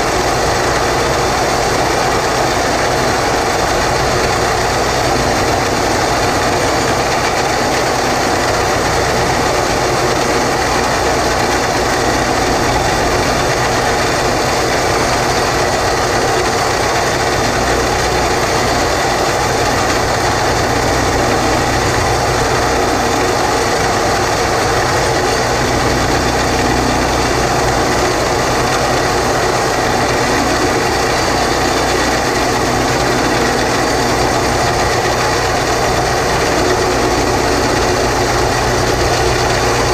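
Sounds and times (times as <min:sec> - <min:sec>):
boring machine engine running: 0:00.0 - 0:39.9.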